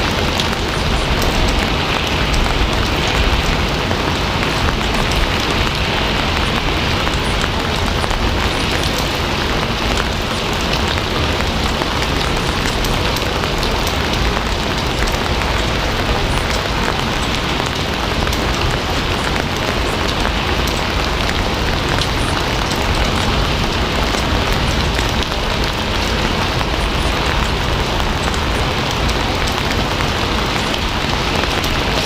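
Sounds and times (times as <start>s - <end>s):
raindrops ticking: 0.0s - 32.0s
steady rain hissing: 0.0s - 32.0s.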